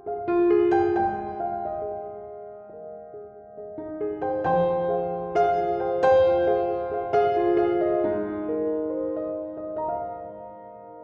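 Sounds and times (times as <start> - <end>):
background piano music: 0.0 - 11.0.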